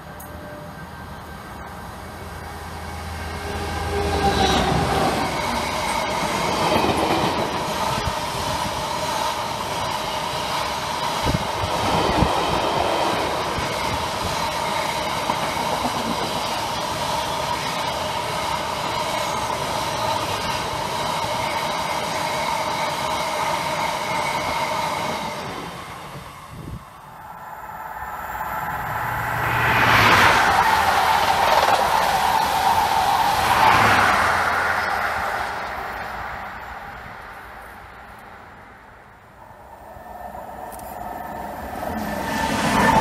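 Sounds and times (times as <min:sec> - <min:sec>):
diesel locomotive engine rumble: 0:00.0 - 0:43.0
train wheel rumble: 0:01.5 - 0:43.0.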